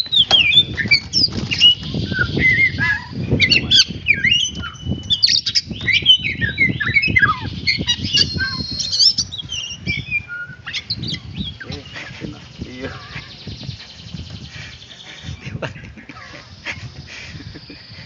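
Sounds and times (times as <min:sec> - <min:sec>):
bird singing whistling song: 0:00.0 - 0:15.5.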